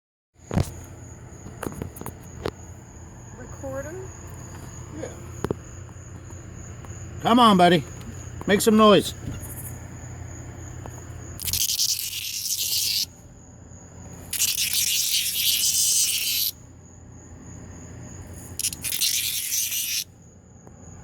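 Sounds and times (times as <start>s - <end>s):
cicada buzzing: 0.5s - 21.0s.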